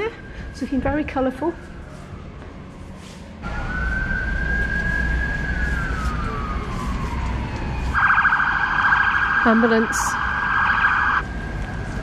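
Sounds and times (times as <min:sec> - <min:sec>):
ambulance siren wailing: 0:00.0 - 0:12.0.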